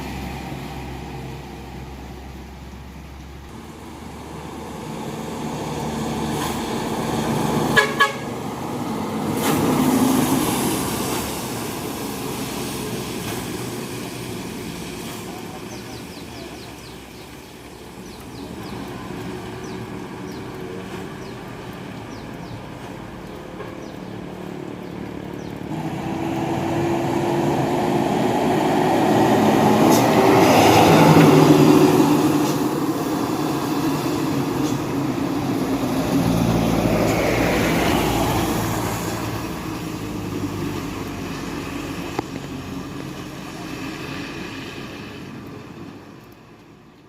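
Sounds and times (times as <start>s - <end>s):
dump trucks driving past: 0.0s - 46.9s.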